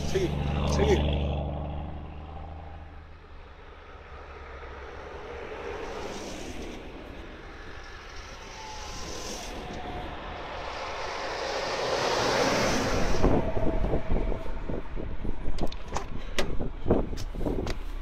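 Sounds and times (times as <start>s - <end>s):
off-road vehicles driving past: 0.0s - 17.1s.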